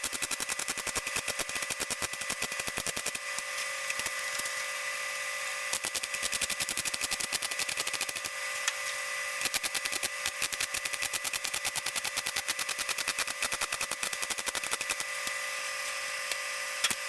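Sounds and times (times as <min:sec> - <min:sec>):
welding arc crackling: 0:00.0 - 0:04.8, 0:05.7 - 0:17.0.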